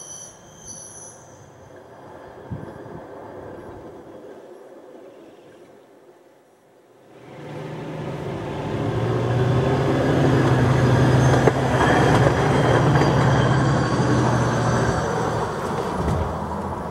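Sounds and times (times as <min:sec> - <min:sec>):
rail wheels on track: 0:00.0 - 0:16.9.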